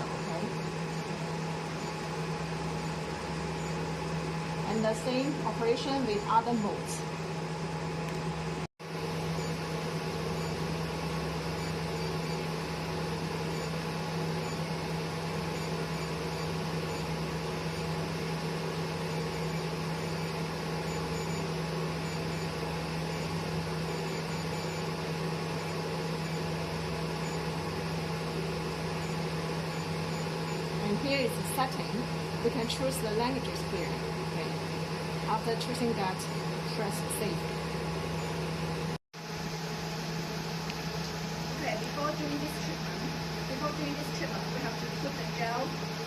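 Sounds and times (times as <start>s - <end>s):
electrical machine hum: 0.0s - 46.0s.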